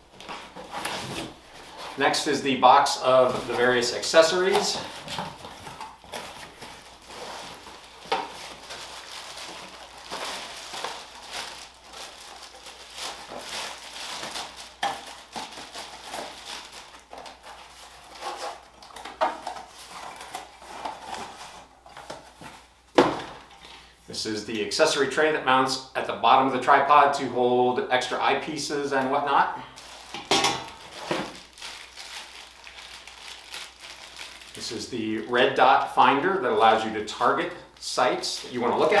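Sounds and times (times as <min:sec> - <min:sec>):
packaging rustling: 0:00.0 - 0:23.8, 0:29.8 - 0:35.5, 0:36.2 - 0:39.0.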